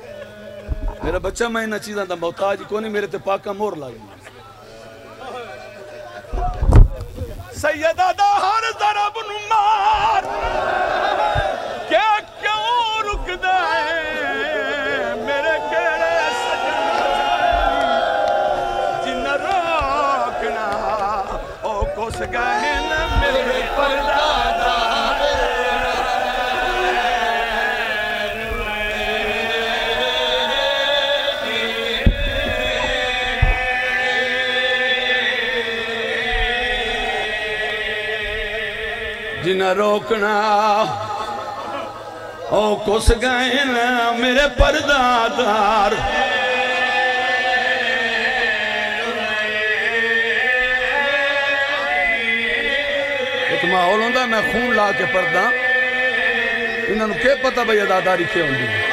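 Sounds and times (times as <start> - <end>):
man chanting a lament: 0.0 - 58.9.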